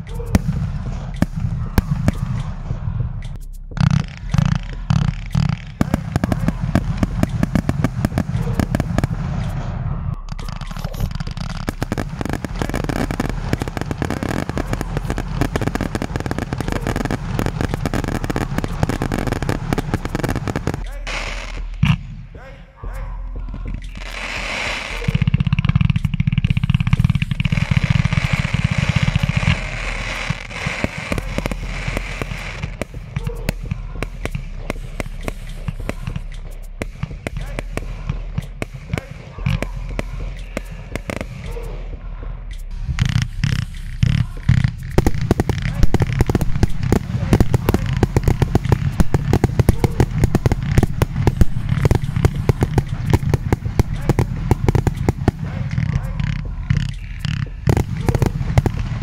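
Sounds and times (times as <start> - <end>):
fireworks crackling: 0.0 - 22.4, 23.5 - 59.0
fireworks thudding: 0.0 - 22.4, 23.4 - 59.0
low rumble: 0.0 - 59.0.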